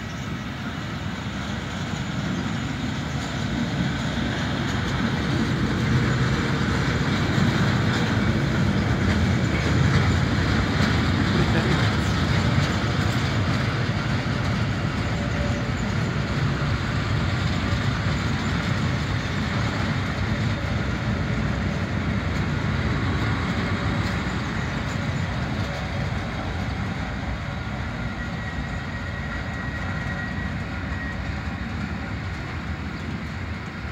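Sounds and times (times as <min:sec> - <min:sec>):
train wheels rumbling on track: 0:00.0 - 0:33.9.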